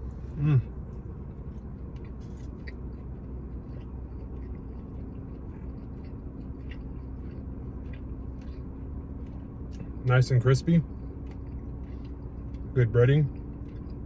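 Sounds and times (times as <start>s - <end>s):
chewing crispy fried chicken: 0.0s - 14.0s
steady low hum: 0.0s - 14.0s.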